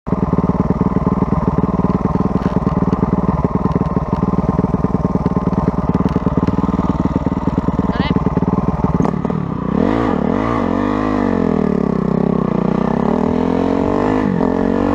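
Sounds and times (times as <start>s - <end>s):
dirt bike engine running: 0.1s - 14.9s.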